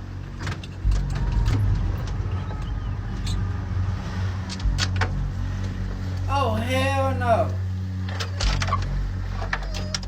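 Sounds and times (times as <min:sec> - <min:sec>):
boat motor rumbling: 0:00.0 - 0:10.0.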